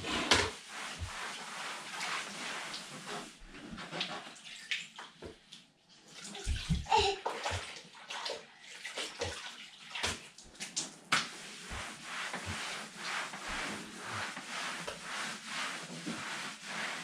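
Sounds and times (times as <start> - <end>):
water sloshing in a bucket: 0.0 - 17.0.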